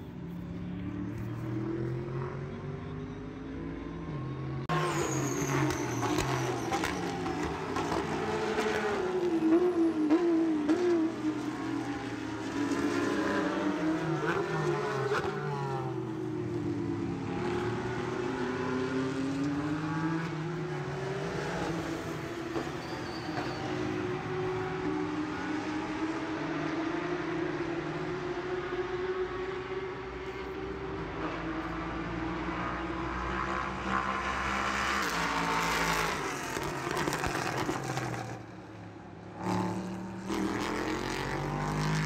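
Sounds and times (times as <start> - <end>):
motor engines revving: 4.7 - 42.0.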